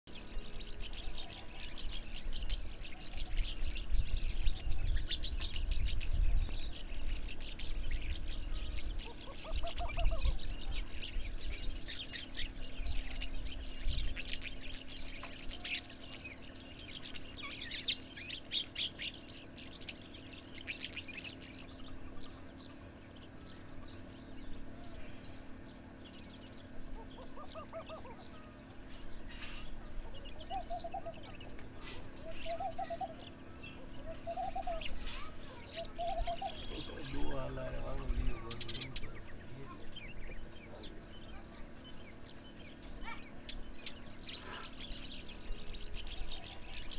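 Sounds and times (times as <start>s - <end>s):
lower arched bird call: 0.1s - 46.9s
small birds chirping: 0.1s - 46.9s.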